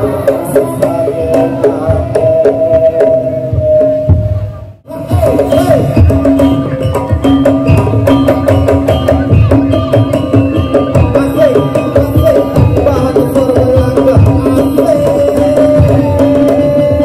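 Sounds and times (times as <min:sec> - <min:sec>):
drums beating fast rhythm: 0:00.0 - 0:17.0
pitch-bending melody: 0:00.0 - 0:17.0.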